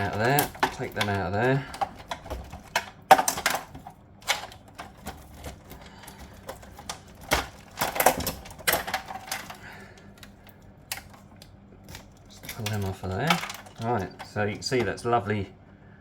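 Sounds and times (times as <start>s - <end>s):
fuse box parts clicking and knocking: 0.0s - 15.0s.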